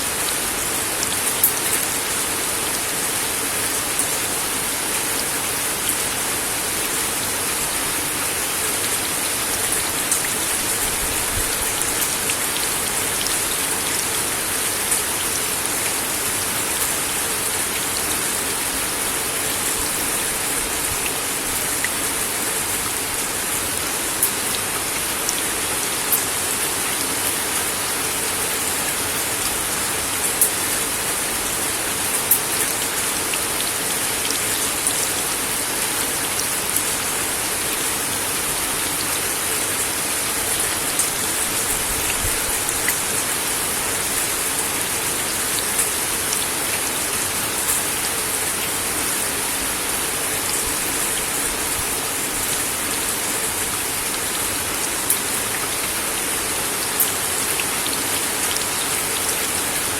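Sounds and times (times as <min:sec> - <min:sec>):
rain on a wooden deck: 0:00.0 - 0:59.9.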